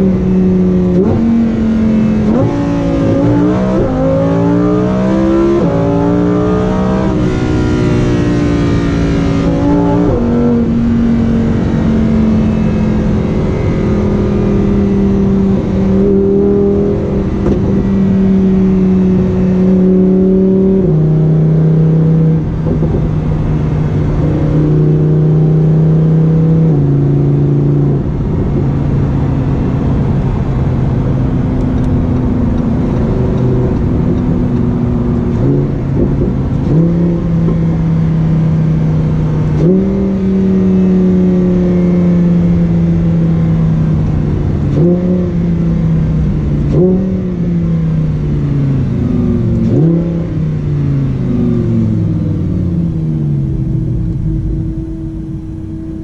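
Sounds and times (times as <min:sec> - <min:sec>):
car engine running at steady revs: 0:00.0 - 0:56.0.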